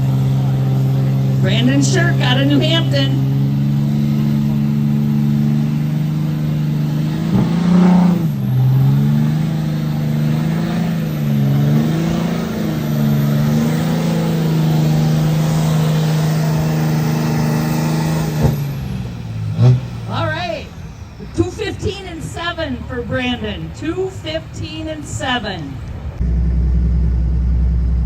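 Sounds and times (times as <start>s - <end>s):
diesel engine running under load: 0.0s - 28.0s.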